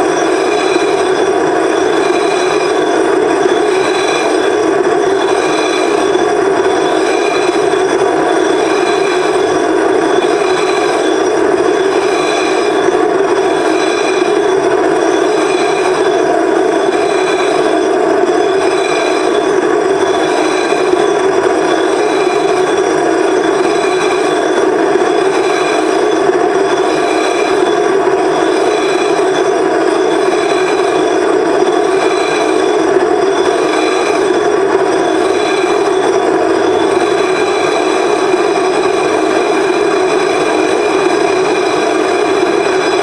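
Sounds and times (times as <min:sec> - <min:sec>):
grinding scrape of tool on glass: 0:00.0 - 0:43.0.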